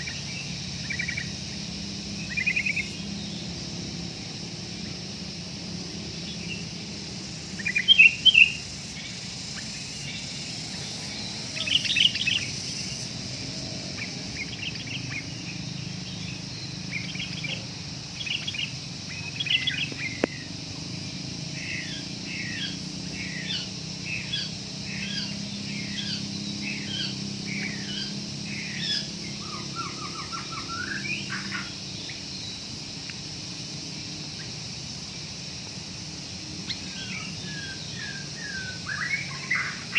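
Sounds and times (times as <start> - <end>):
high insect-like hiss: 0.0 - 39.9.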